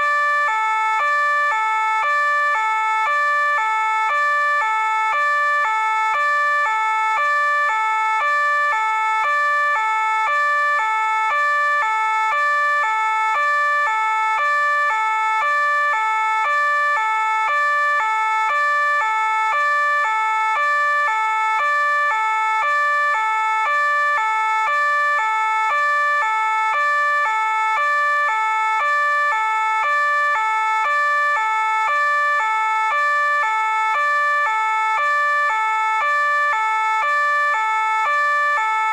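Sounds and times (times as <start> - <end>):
two-tone police siren: 0.0 - 38.9.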